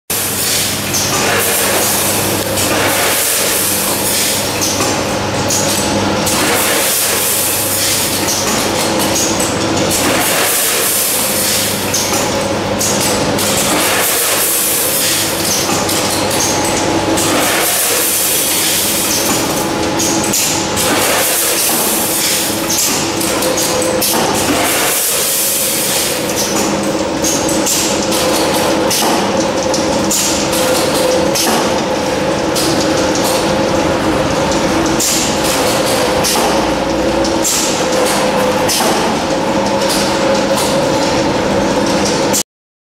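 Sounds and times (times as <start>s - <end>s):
packing machines clattering: 0.1s - 42.4s.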